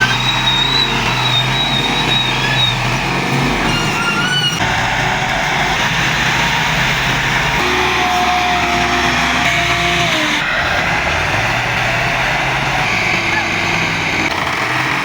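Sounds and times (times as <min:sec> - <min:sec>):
tractor diesel engine under load: 0:00.0 - 0:15.0
whining tone sliding down: 0:00.0 - 0:15.0.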